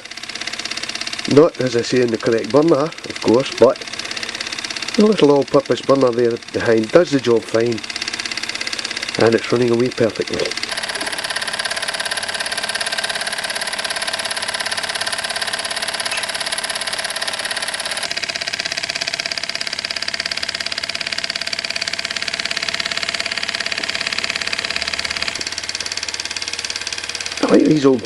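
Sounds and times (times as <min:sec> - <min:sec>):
toy steam engine running: 0:00.0 - 0:28.0.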